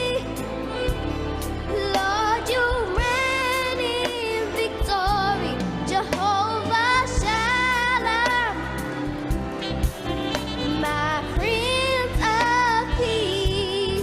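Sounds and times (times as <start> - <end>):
woman singing with vibrato: 0.0 - 9.2, 10.6 - 14.0
bass and drums: 0.0 - 14.0.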